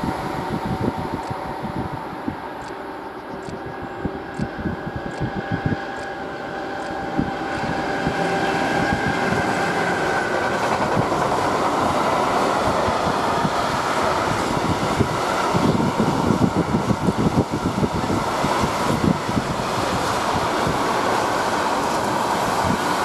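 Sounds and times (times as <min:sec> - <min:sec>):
freight train rumble: 0:00.0 - 0:23.0.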